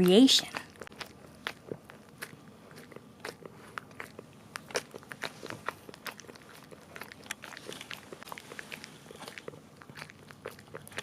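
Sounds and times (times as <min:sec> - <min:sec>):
dog licking and smacking: 0:00.0 - 0:11.0.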